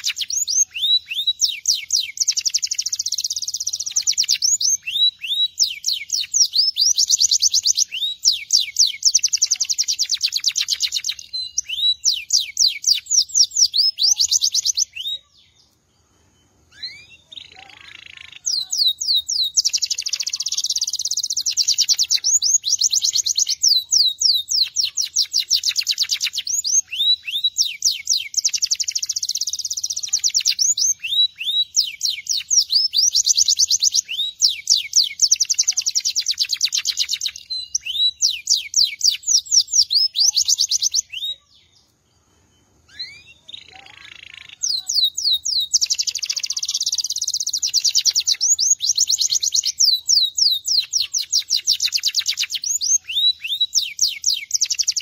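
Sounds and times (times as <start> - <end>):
canary singing high trills: 0.0 - 55.0.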